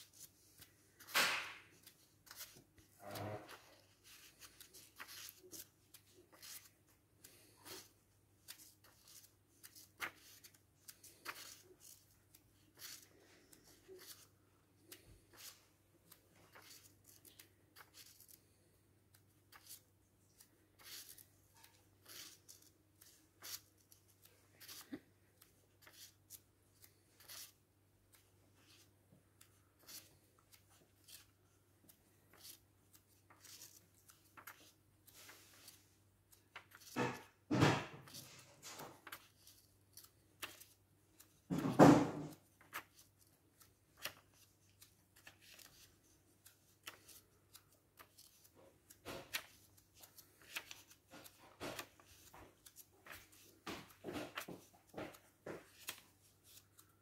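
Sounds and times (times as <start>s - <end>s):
paper pages rustling: 0.0s - 57.0s.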